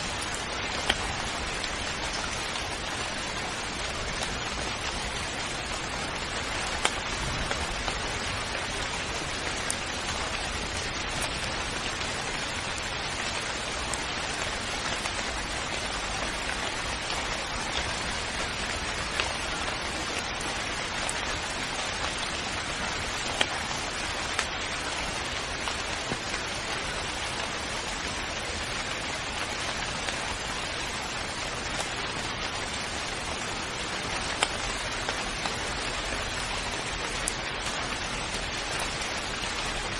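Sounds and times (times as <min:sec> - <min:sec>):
raindrop ticks: 0:00.0 - 0:39.9
steady rain hiss: 0:00.0 - 0:39.9.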